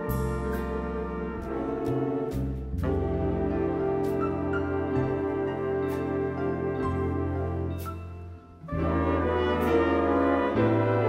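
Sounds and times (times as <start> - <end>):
jazz big band playing: 0.0 - 11.0.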